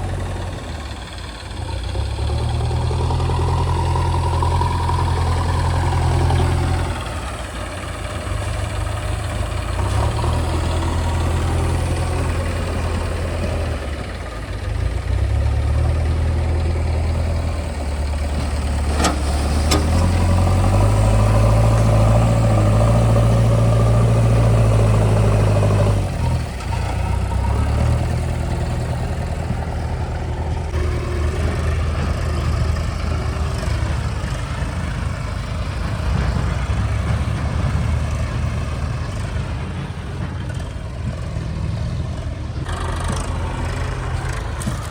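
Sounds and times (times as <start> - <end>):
diesel engine revving: 0.0 - 44.9.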